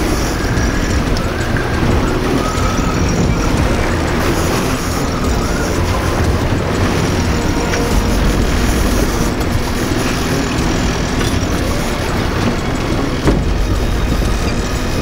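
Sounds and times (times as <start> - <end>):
boat engine running: 0.0 - 15.0
wind on microphone: 0.0 - 15.0.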